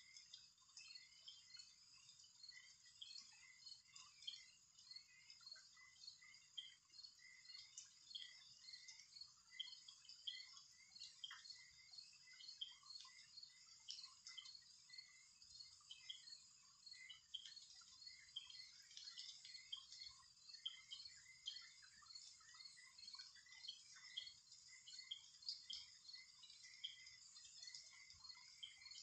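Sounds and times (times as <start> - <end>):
faint high chirping: 0.0 - 29.0.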